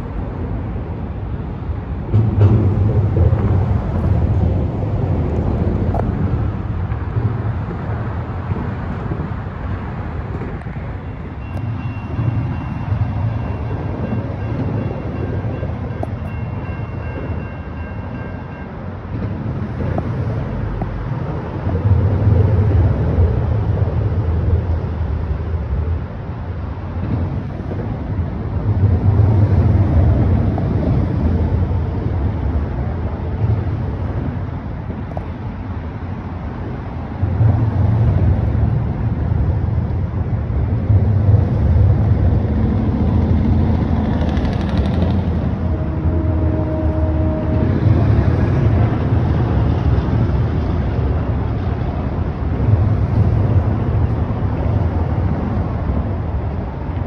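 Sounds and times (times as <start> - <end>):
heavy vehicles passing over bridge: 0.0 - 57.0
highway traffic rumble: 0.0 - 57.0.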